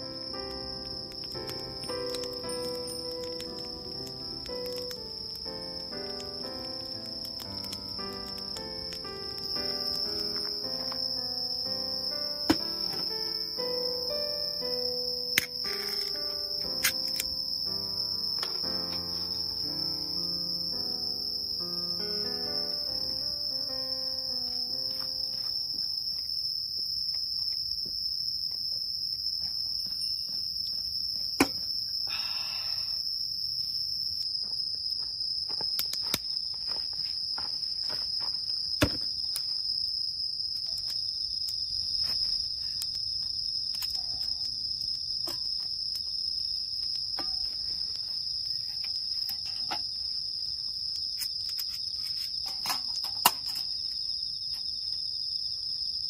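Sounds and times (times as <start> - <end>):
insect chorus trilling: 0.0 - 56.0.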